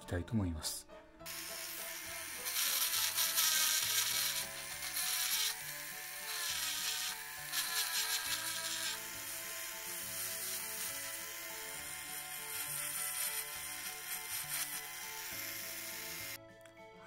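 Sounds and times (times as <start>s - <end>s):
rasping grinding on metal: 1.3s - 15.3s
rotary grinder whining: 1.3s - 16.4s.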